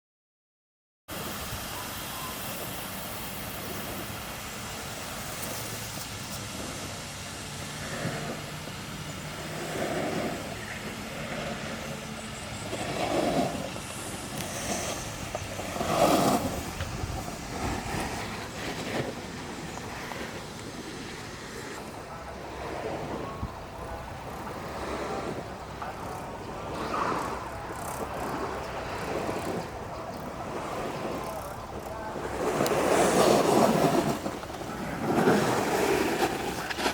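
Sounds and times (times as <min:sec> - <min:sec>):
wheels rolling on pavement: 0:01.1 - 0:36.9
wind on microphone: 0:01.1 - 0:36.9.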